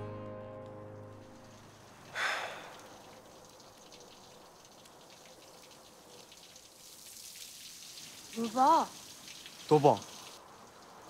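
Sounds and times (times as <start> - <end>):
faint hiss with crackling: 1.1 - 11.0.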